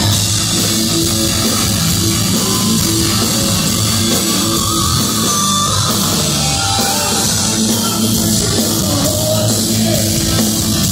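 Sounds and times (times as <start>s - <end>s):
hard rock band playing: 0.0s - 10.9s.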